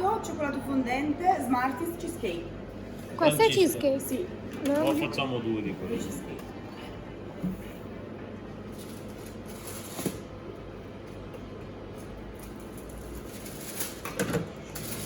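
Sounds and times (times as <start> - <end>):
shop interior hum: 0.0 - 15.0.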